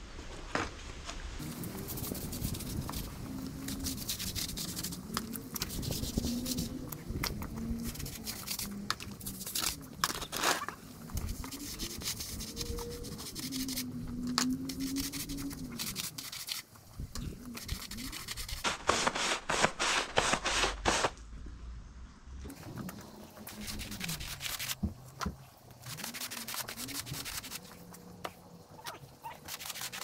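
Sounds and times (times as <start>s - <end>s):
stiff brush scrubbing slabs: 1.4s - 21.2s, 22.5s - 30.0s.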